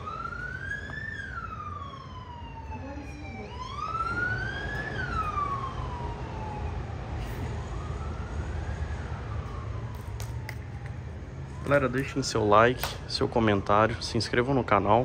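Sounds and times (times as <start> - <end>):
emergency vehicle siren wailing: 0.0 - 15.0.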